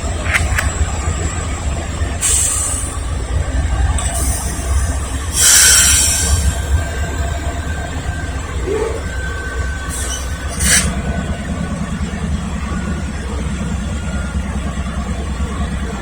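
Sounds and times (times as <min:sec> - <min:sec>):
diesel locomotive rumbling: 0:00.0 - 0:16.0.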